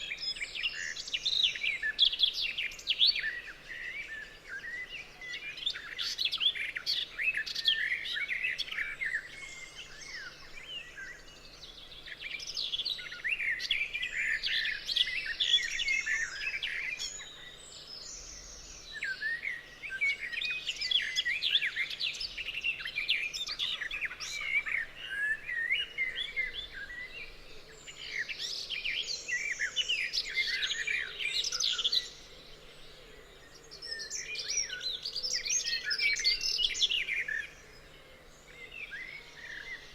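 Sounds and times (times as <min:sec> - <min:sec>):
forest birds chirping and singing: 0:00.0 - 0:39.9.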